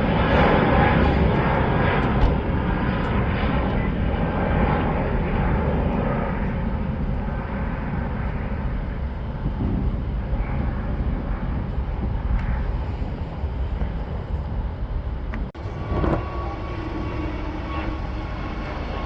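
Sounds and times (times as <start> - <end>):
jet engines rumbling at takeoff: 0.0 - 19.0.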